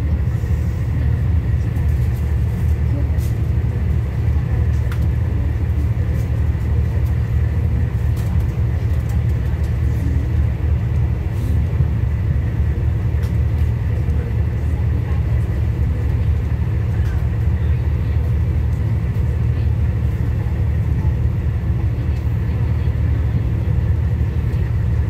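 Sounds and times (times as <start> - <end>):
train running noise inside carriage: 0.0 - 25.0.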